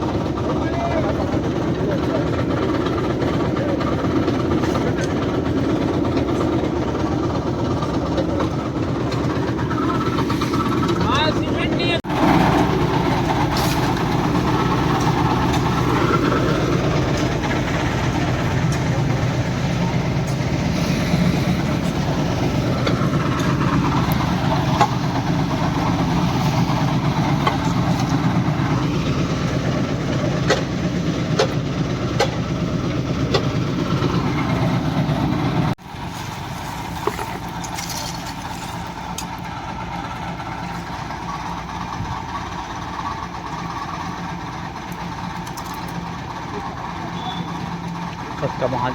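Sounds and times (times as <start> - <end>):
construction machinery engine running: 0.0 - 48.9.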